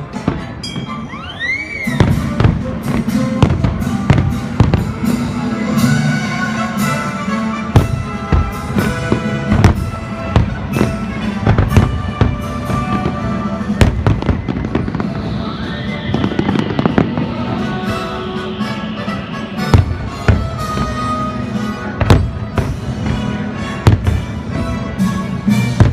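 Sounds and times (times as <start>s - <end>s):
fireworks bursting: 0.0s - 25.9s
orchestral soundtrack: 0.0s - 25.9s.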